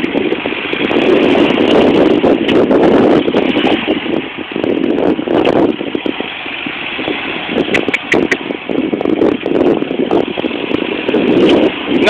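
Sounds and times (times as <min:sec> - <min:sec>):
truck engine under load: 0:00.0 - 0:12.0
wheels spinning in sand: 0:00.0 - 0:12.0.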